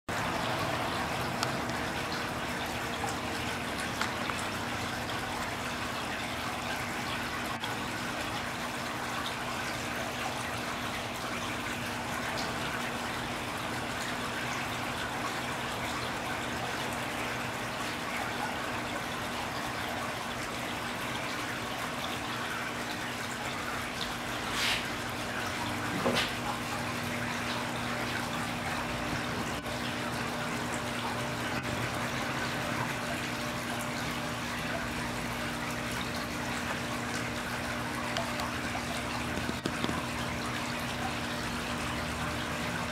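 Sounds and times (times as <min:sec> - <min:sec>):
faint steady hum: 0:00.1 - 0:42.9
fountain water flowing and splashing: 0:00.1 - 0:42.9.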